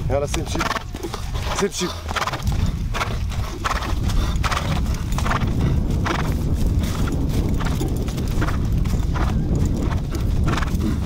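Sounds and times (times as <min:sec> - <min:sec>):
horse hooves clopping on dirt: 0:00.0 - 0:11.0
steady low rumble: 0:00.0 - 0:11.0.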